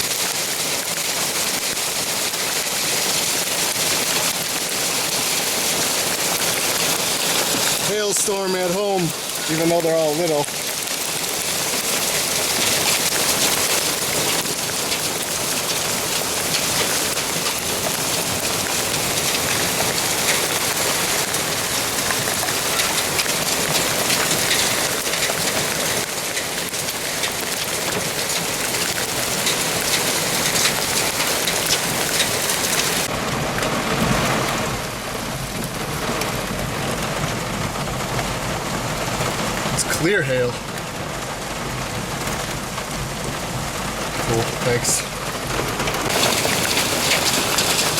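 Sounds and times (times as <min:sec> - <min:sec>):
heavy rain and hail pelting: 0:00.0 - 0:47.9.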